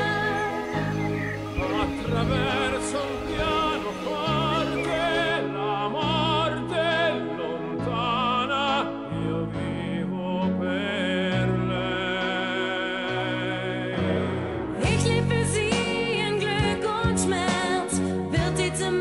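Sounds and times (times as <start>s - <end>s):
operatic ballad with orchestra: 0.0s - 19.0s.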